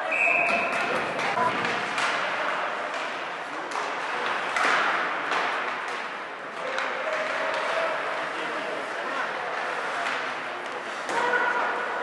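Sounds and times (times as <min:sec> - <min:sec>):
crowd and rink noise: 0:00.0 - 0:12.0
hockey sticks and puck knocking: 0:00.4 - 0:08.4, 0:09.1 - 0:12.0.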